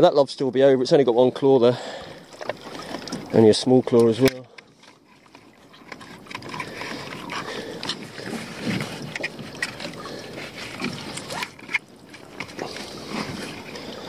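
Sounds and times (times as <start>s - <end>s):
lobster pot clicks and rustling: 2.3s - 13.6s.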